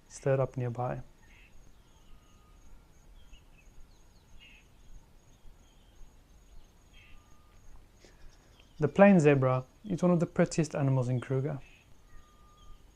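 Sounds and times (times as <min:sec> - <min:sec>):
insect chirping: 0:00.0 - 0:12.9
faint bird chirps: 0:00.1 - 0:12.9.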